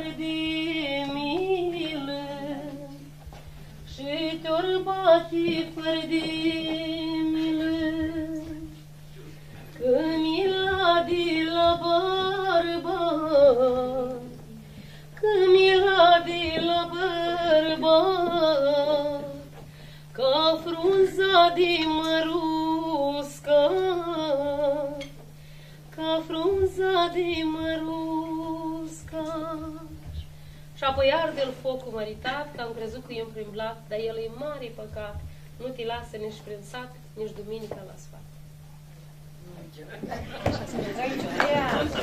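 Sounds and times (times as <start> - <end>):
woman singing folk melody: 0.0 - 3.2, 3.9 - 8.9, 9.8 - 25.2, 25.9 - 38.1
steady low hum: 0.0 - 42.0.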